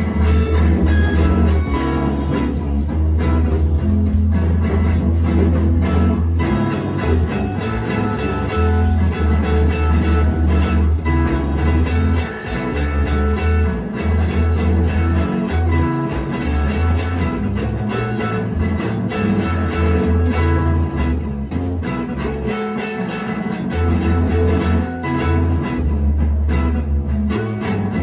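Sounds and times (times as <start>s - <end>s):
deep low notes: 0.0s - 28.0s
electric guitar jam: 0.0s - 28.0s.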